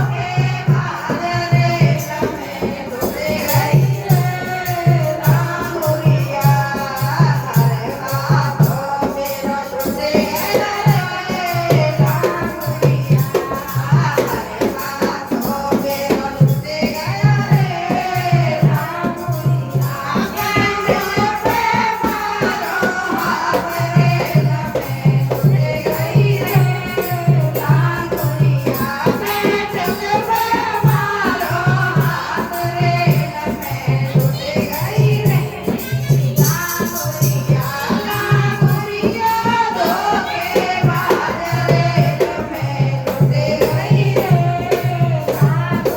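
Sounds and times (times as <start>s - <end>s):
jingling percussion: 0.0s - 45.9s
person singing folk song: 0.0s - 45.9s
steady drum beat: 0.0s - 45.9s.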